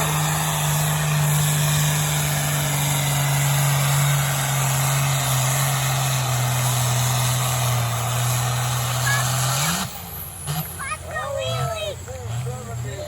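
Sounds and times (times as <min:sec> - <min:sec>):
vehicle engine running under heavy load: 0:00.0 - 0:13.0.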